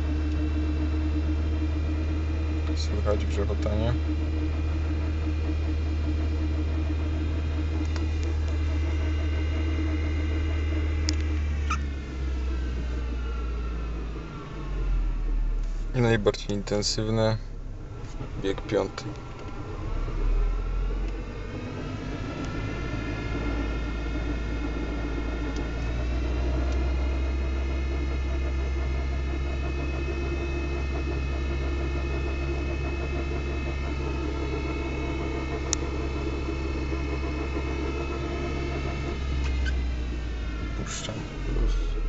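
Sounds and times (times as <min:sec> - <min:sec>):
engine and road rumble: 0:00.0 - 0:42.0
gearbox droning: 0:00.0 - 0:42.0.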